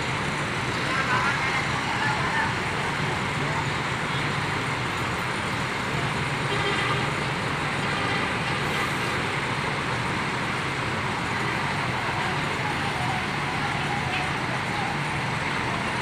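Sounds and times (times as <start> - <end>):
diesel bus engine idling: 0.0 - 16.0
traffic noise: 0.0 - 16.0.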